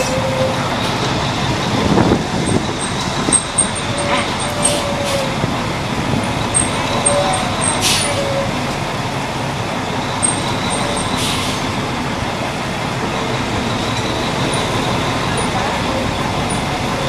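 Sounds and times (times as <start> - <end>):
truck engine and road noise: 0.0 - 17.0
wind: 0.0 - 17.0.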